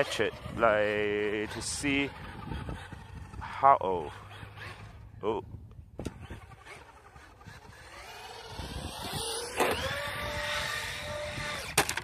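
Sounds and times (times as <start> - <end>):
electric motor whining: 0.0 - 5.3, 6.0 - 12.0.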